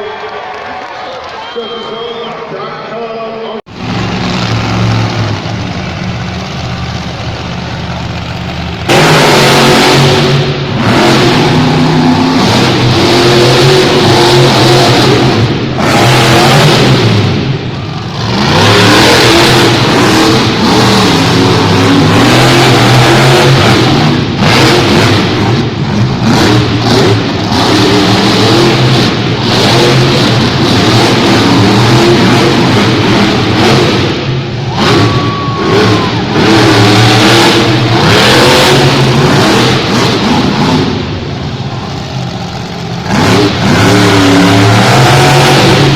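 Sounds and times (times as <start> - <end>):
monster truck engines revving: 0.0 - 45.9.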